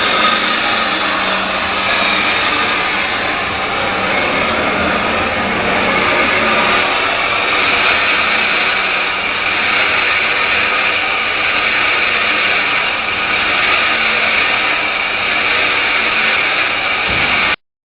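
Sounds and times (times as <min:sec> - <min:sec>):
lathe cutting hiss: 0:00.0 - 0:17.6.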